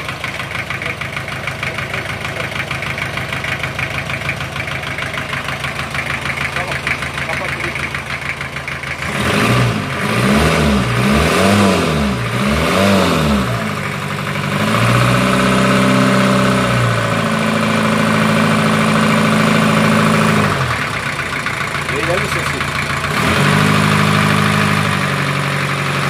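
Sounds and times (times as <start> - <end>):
diesel boat engine revving and idling: 0.0 - 26.0.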